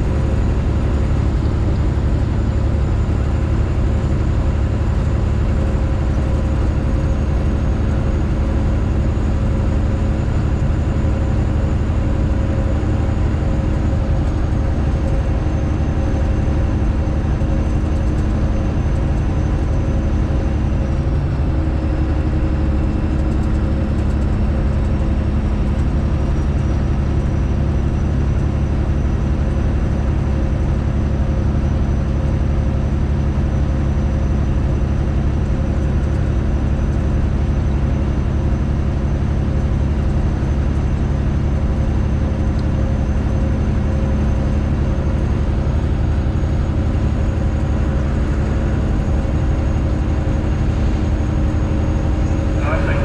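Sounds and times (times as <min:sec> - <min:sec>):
diesel truck engine droning: 0:00.0 - 0:53.0.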